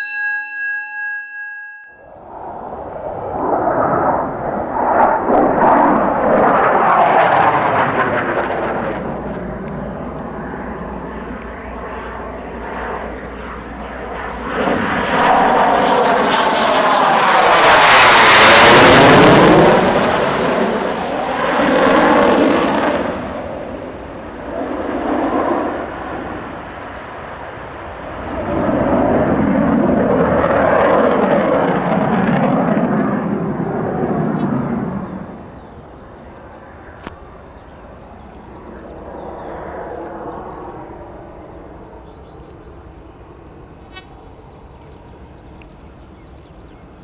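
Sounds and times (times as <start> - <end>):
fighter jet engines roaring: 2.0 - 47.0.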